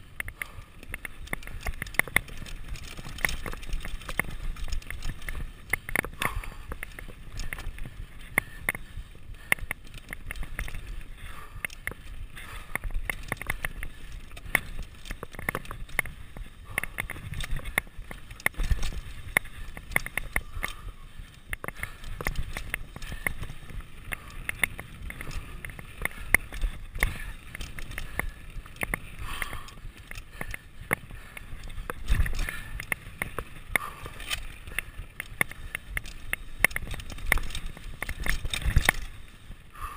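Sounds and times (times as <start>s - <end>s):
bike clattering over bumps: 0.0s - 39.9s
tyre and wind rumble: 0.0s - 39.9s.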